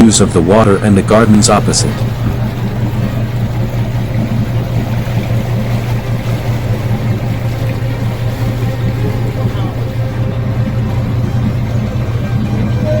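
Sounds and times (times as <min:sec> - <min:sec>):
boat engine humming: 0:00.0 - 0:13.0
water wash: 0:00.0 - 0:13.0.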